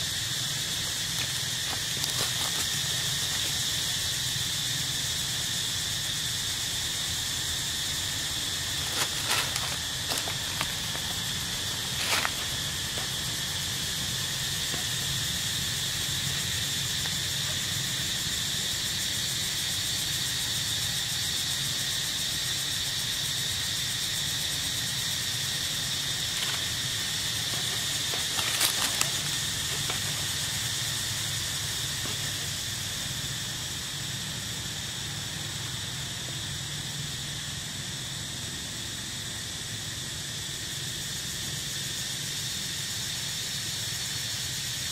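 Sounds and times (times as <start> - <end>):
high drone of insects: 0.0 - 44.9.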